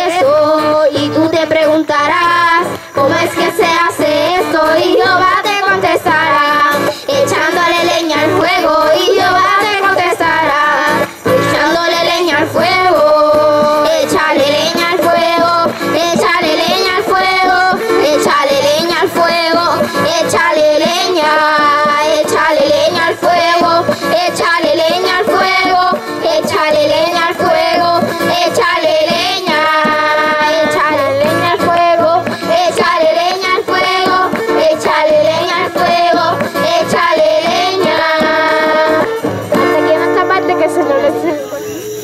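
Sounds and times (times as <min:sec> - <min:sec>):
children singing a worship chorus: 0:00.0 - 0:39.2.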